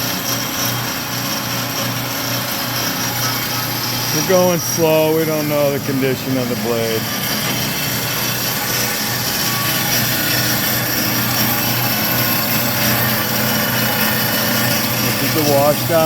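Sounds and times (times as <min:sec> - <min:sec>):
bandsaw cutting pipe: 0:00.0 - 0:16.0.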